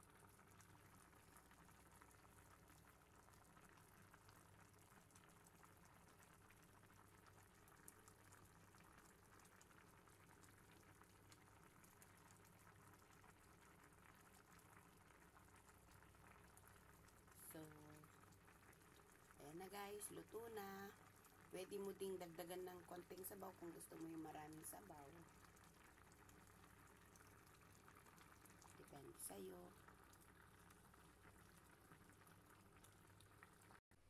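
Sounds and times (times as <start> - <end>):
broth bubbling in a pot: 0.0 - 34.0.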